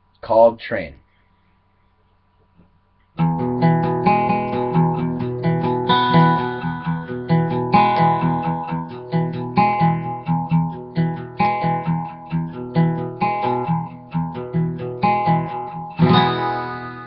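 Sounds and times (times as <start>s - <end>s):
acoustic guitar strumming chords: 3.2s - 17.0s.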